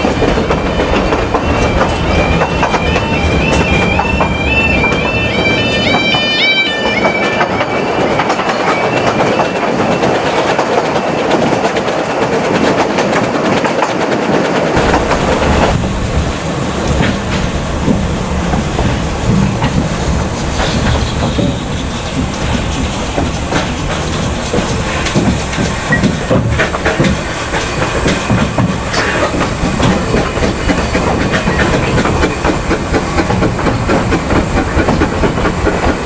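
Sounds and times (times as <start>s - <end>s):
train wheels squealing: 0.0s - 12.5s, 18.5s - 36.0s
wheels clattering on track: 0.0s - 36.0s.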